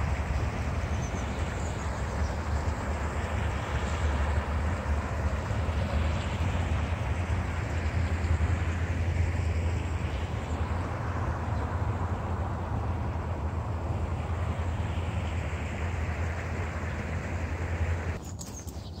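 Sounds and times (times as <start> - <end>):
freight train rumbling by: 0.0 - 18.3.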